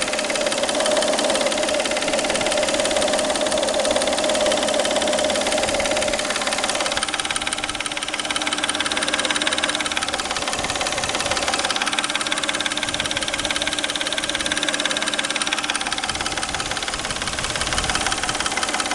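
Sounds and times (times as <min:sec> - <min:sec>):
car engine idling: 0:00.0 - 0:18.9
rapid even engine knock: 0:00.0 - 0:18.9.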